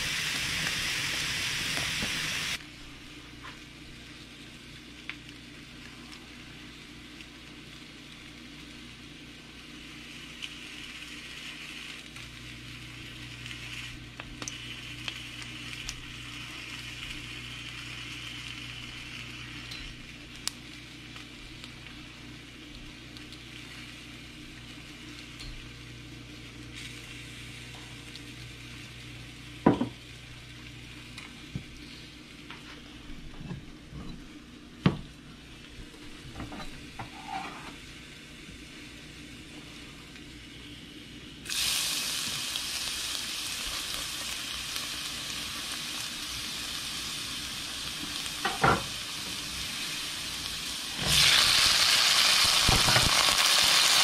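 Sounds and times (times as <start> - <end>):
chicken sizzling on grill pan: 0.0 - 2.6, 3.5 - 32.6, 37.0 - 54.0
oil heating in frying pan: 0.0 - 54.0.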